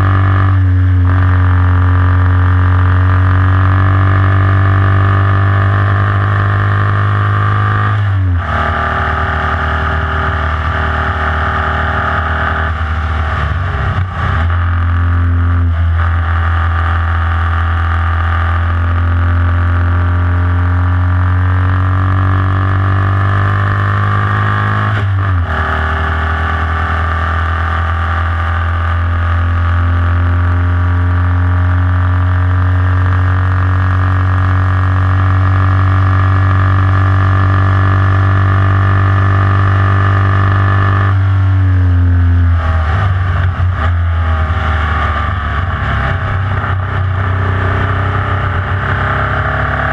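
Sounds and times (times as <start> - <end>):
race car engine at full throttle: 0.0 - 49.9.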